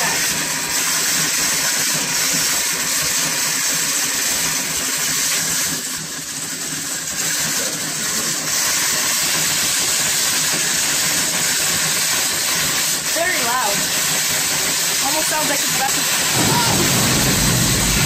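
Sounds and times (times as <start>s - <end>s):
blender motor whirring: 0.0s - 18.0s.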